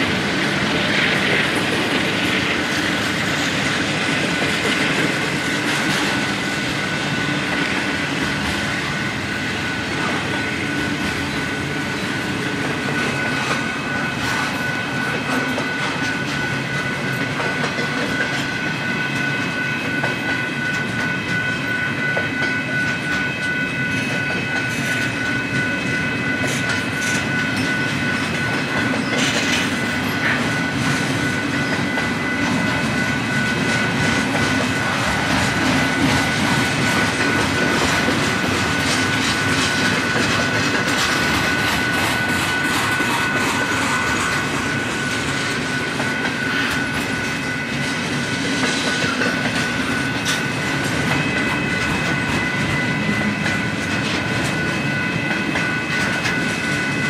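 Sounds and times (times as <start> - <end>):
steady high-pitched tone: 0.0 - 57.0
train rumble: 0.0 - 57.0
train wheels clacking on rails: 0.0 - 57.0.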